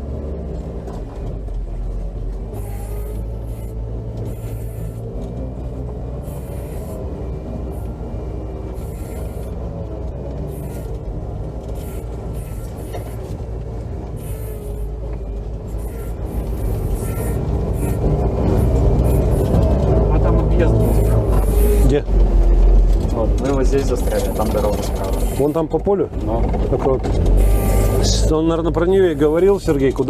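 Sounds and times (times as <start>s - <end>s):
off-road vehicle engine rumbling: 0.0s - 30.0s.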